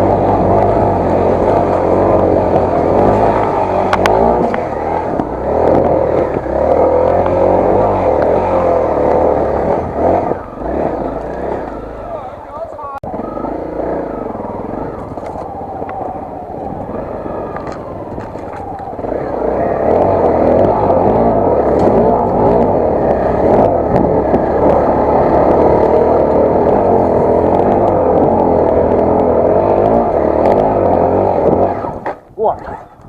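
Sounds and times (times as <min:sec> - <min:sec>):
dirt bike engine running: 0:00.0 - 0:32.6.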